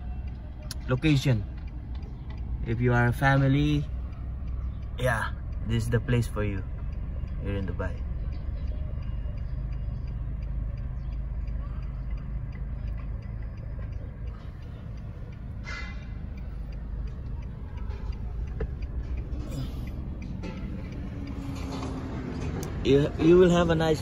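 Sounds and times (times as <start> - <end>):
faint regular ticking: 0.0 - 24.0
road and engine rumble: 0.0 - 24.0.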